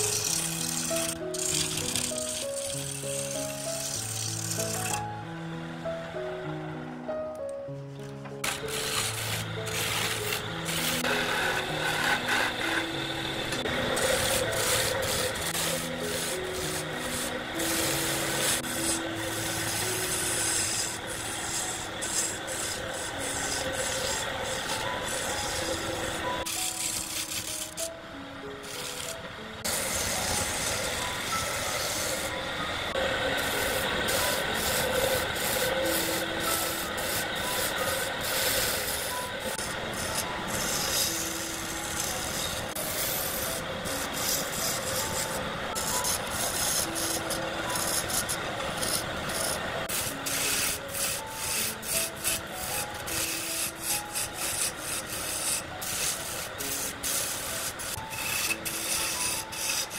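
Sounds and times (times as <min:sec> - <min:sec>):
tool scraping spinning wood: 0:00.0 - 0:05.1, 0:08.4 - 0:27.9, 0:28.5 - 0:59.9.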